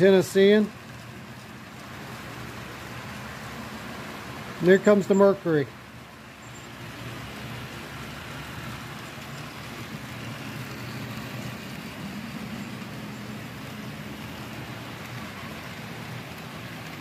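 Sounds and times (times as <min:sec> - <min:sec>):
locomotive motor hum: 0:00.0 - 0:17.0
model train wheels rumbling on track: 0:00.0 - 0:17.0.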